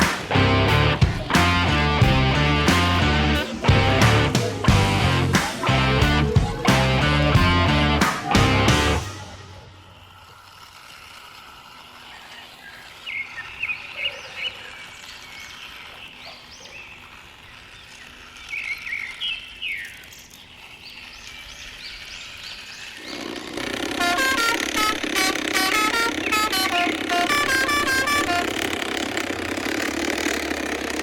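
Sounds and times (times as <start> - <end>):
birds chirping: 0.0 - 10.6, 11.4 - 28.9.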